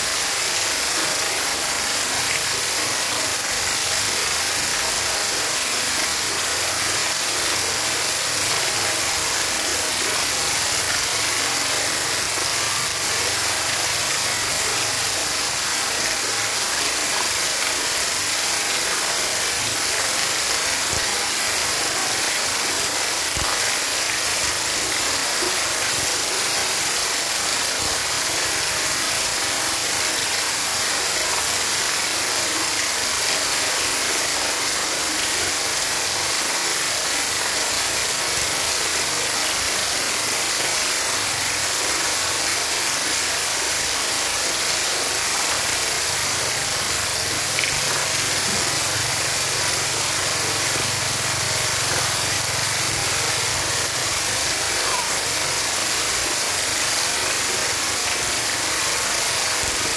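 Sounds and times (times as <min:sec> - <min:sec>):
fountain water splashing into pool: 0:00.0 - 0:59.9.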